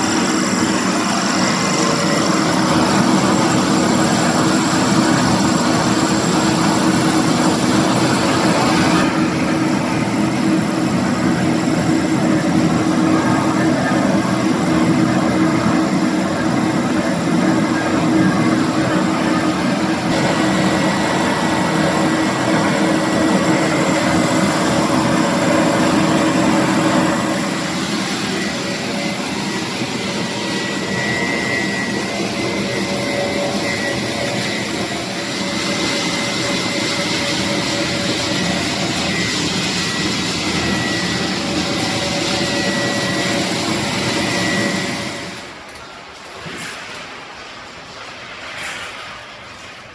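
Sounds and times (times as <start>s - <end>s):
machinery running with high whine: 0.0s - 49.9s.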